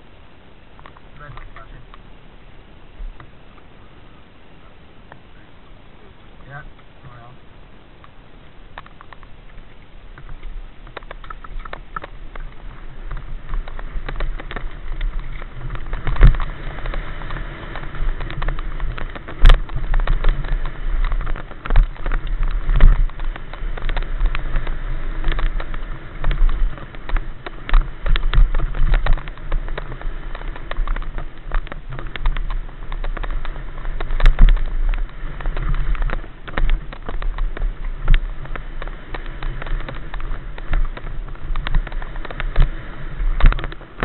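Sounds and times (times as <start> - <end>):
constant low rumble: 0.0 - 44.0
tyres on dirt: 0.0 - 44.0
bike rattling and knocking: 8.7 - 44.0.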